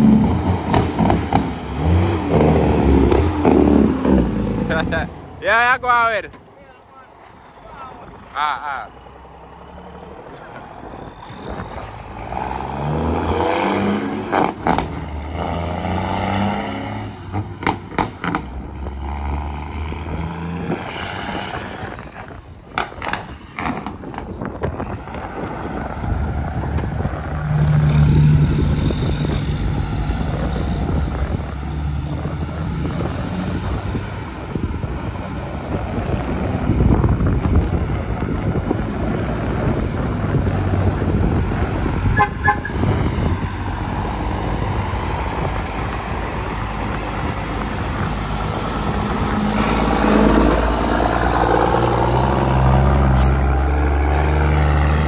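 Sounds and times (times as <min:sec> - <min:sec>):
dump truck engine labouring: 0:00.0 - 0:55.0.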